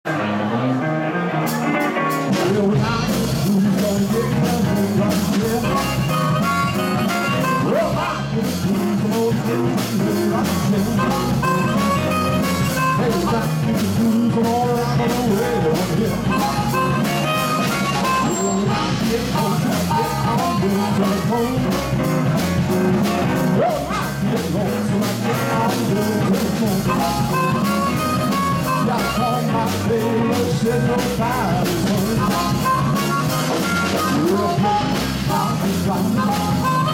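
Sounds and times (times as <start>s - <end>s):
electric guitars: 0.1s - 36.9s
man singing: 0.1s - 36.9s
drum kit beat: 1.4s - 36.9s
harmonica: 2.9s - 23.0s, 25.5s - 36.9s.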